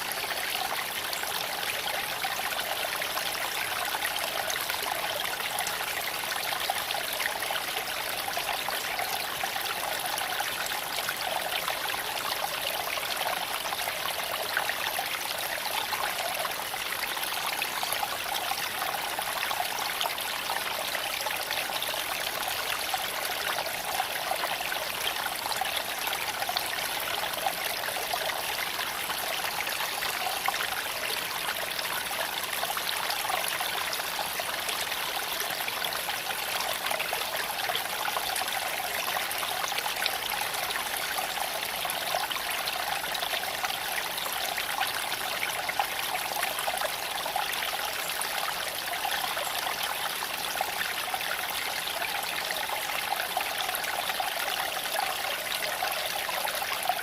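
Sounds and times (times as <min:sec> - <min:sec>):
creek water flowing over stones: 0:00.0 - 0:57.0.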